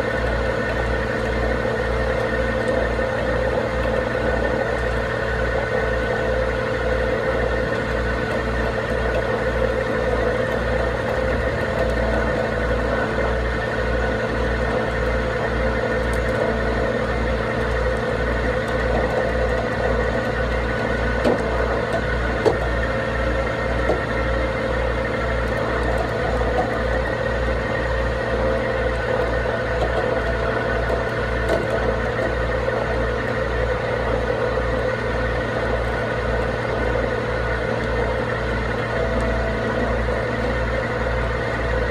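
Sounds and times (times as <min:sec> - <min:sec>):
heavy truck engine running: 0:00.0 - 0:41.9.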